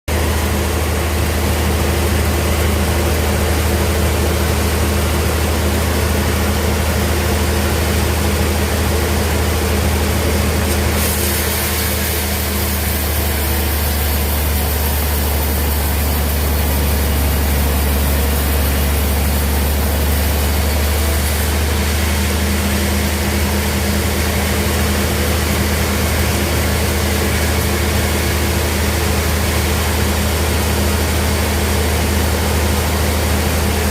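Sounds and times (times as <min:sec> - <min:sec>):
band saw humming: 0:00.1 - 0:33.9.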